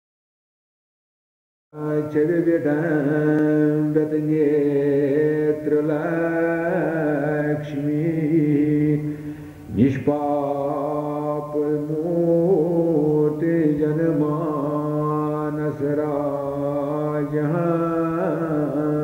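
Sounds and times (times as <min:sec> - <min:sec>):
devotional chant melody: 0:01.8 - 0:19.0.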